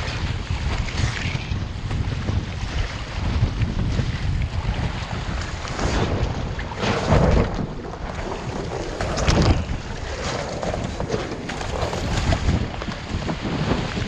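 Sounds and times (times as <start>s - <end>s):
water splashing and sloshing: 0.0s - 14.0s
wind buffeting microphone: 0.0s - 14.0s.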